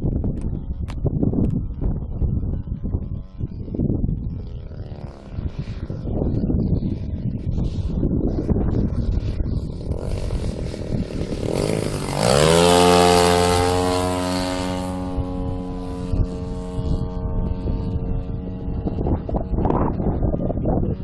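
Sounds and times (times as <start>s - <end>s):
model plane engine and propeller: 0.0s - 21.0s
wind rumbling on microphone: 0.0s - 21.0s.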